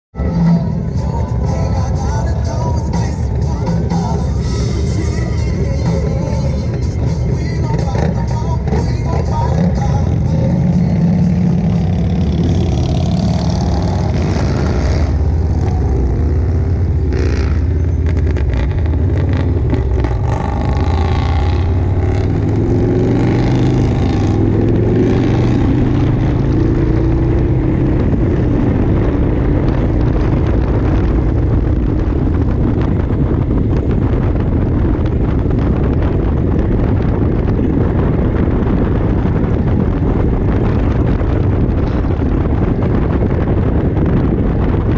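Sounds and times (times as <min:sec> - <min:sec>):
motorcycle engine accelerating: 0:00.1 - 0:44.9
road and wind rush: 0:00.1 - 0:44.9.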